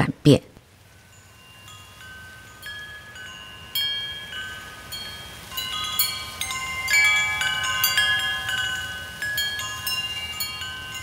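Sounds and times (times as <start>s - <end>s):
metal chimes ringing: 1.0s - 11.0s.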